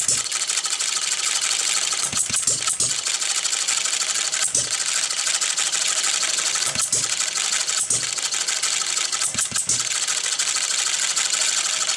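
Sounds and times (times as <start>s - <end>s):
model engine clattering: 0.0s - 11.9s.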